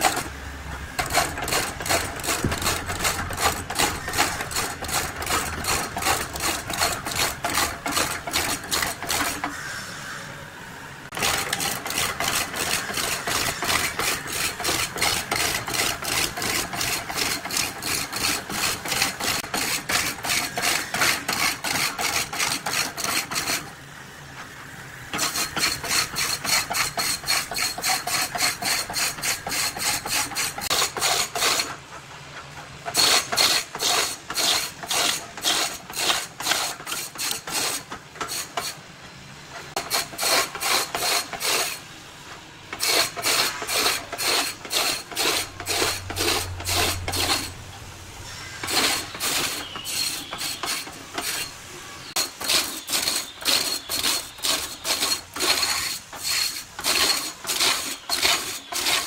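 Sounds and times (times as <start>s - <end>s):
hand tool rasping on wood: 1.0s - 9.5s, 11.1s - 23.7s, 25.2s - 31.7s, 32.9s - 38.8s, 39.8s - 41.8s, 42.8s - 47.5s, 48.6s - 51.5s, 52.2s - 59.0s.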